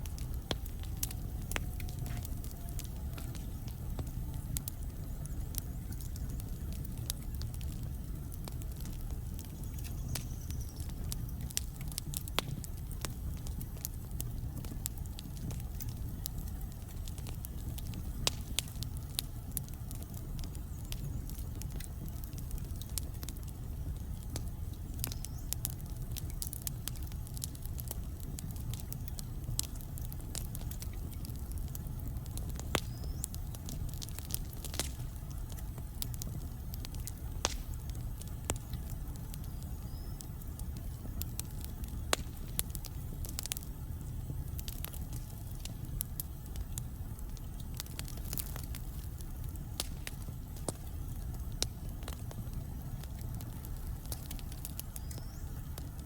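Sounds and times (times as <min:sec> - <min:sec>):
wood fire burning: 0:00.0 - 0:56.0.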